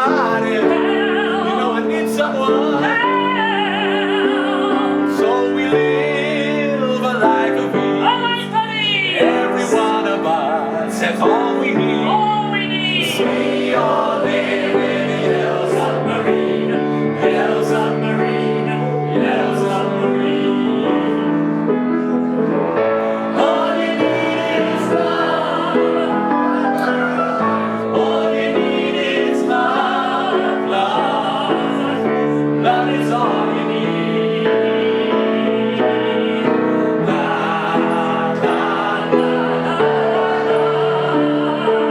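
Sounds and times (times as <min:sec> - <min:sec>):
piano accompaniment: 0:00.0 - 0:41.9
voices singing held notes: 0:00.0 - 0:41.9.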